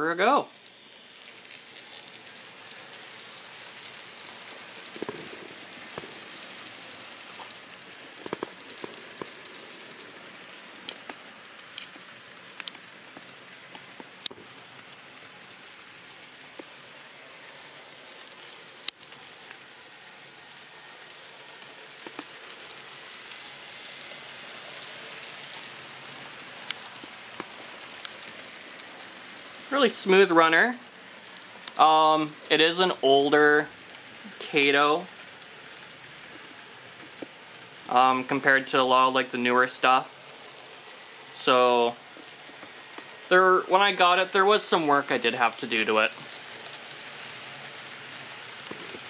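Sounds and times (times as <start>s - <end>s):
model train wheels rattling: 0.0s - 49.0s.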